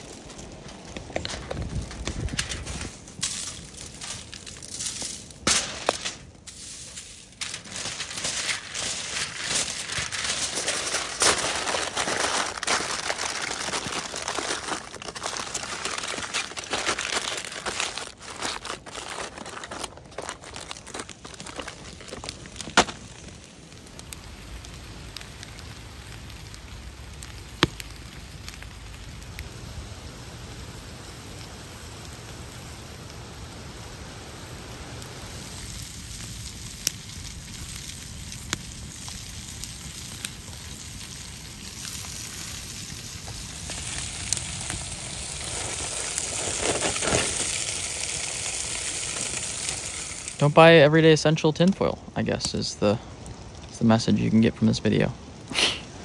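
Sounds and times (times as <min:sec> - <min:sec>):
aluminium foil crinkling: 0:00.0 - 0:29.7, 0:34.8 - 0:50.6
steady hiss: 0:00.0 - 0:56.0.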